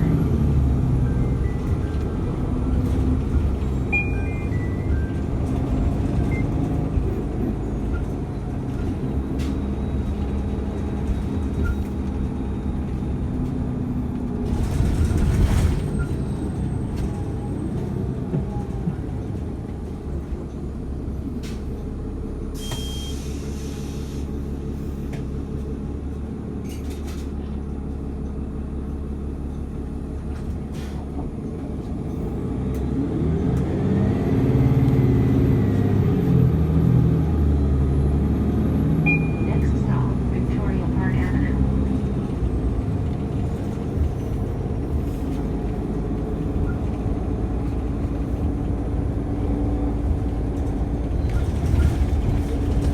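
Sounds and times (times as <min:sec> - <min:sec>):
transit vehicle rumble: 0:00.0 - 0:52.9.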